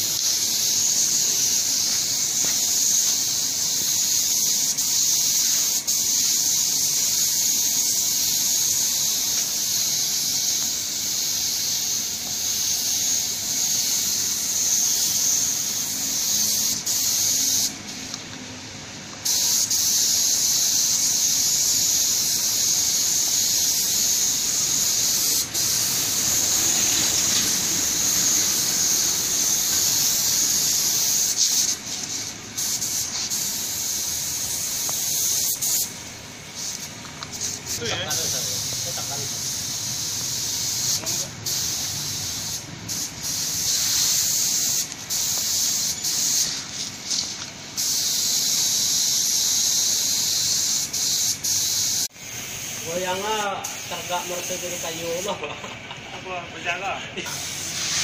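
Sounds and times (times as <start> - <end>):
paint spray gun hissing: 0.0 - 18.3, 19.0 - 55.6, 57.2 - 58.0.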